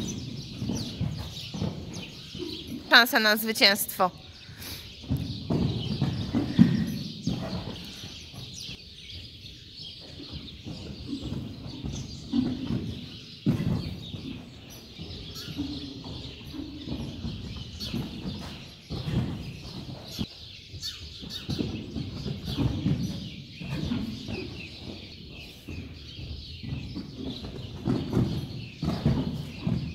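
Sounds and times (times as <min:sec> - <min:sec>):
horse hoofbeats on sand: 0:00.0 - 0:29.9.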